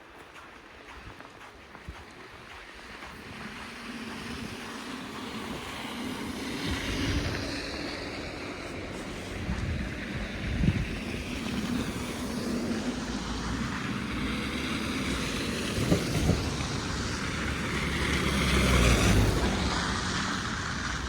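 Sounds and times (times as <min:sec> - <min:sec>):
vehicle engine rumble: 0:01.8 - 0:21.0.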